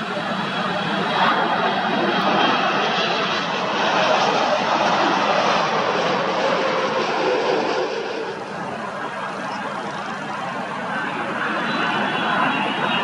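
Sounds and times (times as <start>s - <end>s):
jet engines rushing with whine: 0.0s - 13.0s.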